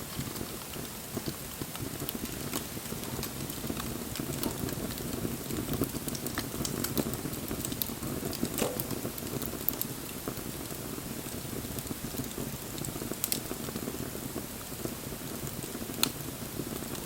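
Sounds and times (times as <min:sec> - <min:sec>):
burning wood crackling and popping: 0:00.0 - 0:17.0.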